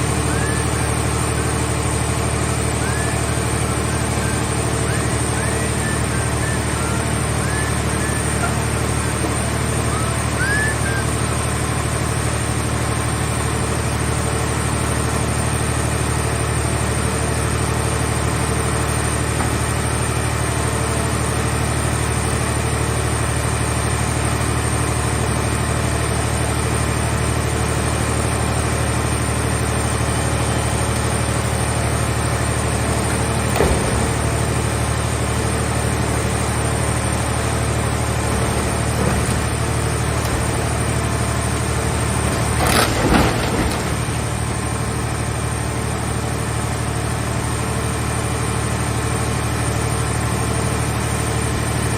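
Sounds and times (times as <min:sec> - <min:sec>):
hydraulic power unit humming: 0:00.0 - 0:51.9.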